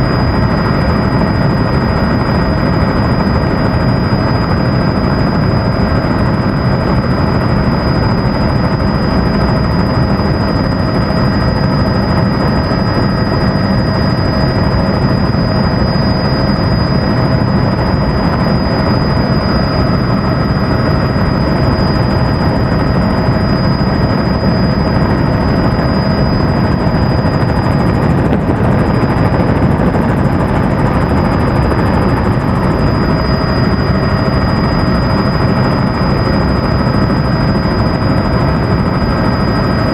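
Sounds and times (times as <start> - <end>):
helicopter rotor and engine drone: 0.0 - 39.9
high-pitched whine: 0.0 - 39.9.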